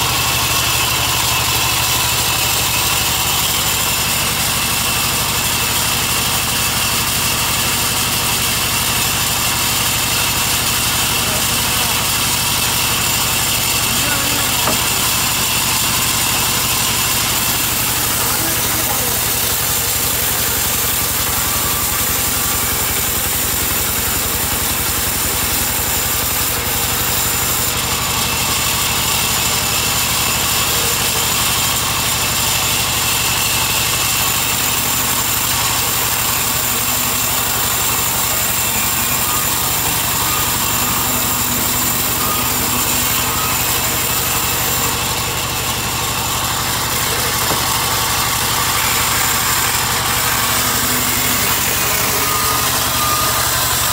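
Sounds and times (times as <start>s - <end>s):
band saw cutting timber: 0.0s - 53.9s.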